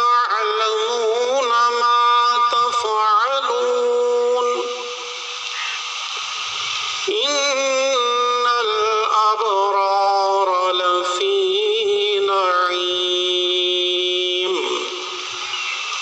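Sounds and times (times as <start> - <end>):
man chanting into a microphone: 0.0 - 5.4, 7.0 - 15.4.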